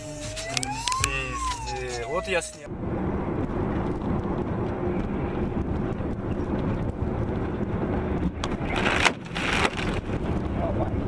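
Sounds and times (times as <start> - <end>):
vehicle engine and tyres droning: 0.0 - 11.0.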